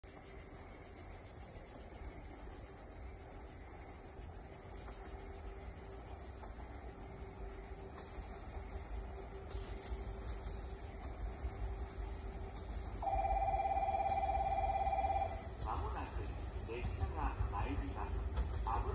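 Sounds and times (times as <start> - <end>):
distant freight train rumble: 0.0 - 18.9
faint hum: 0.1 - 18.9.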